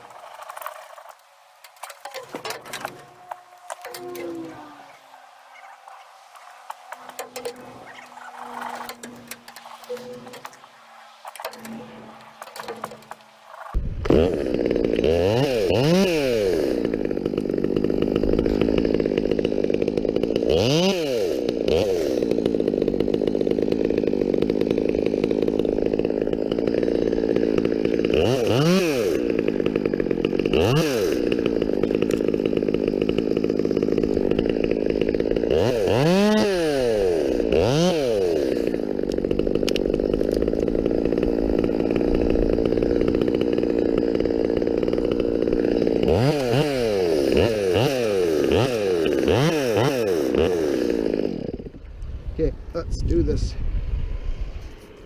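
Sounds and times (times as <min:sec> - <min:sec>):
chainsaw running at high revs: 0:02.0 - 0:05.3, 0:06.2 - 0:51.8.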